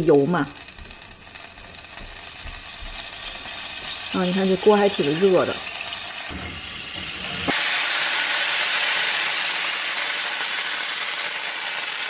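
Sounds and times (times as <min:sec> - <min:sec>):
vinegar sizzling in hot oil: 0:00.0 - 0:12.0.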